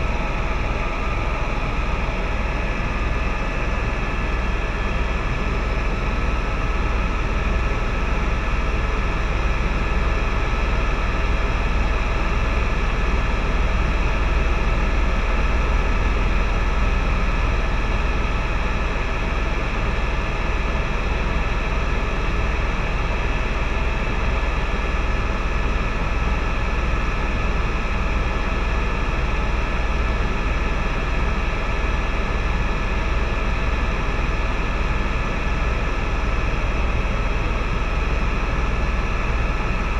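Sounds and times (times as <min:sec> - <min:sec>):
helicopter rotor rumble: 0:00.0 - 0:39.9
turbine whine: 0:00.0 - 0:39.9.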